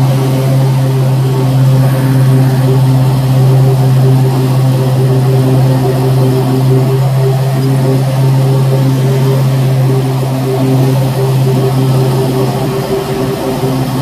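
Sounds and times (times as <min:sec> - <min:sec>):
lawn mower cutting grass: 0:00.0 - 0:14.0.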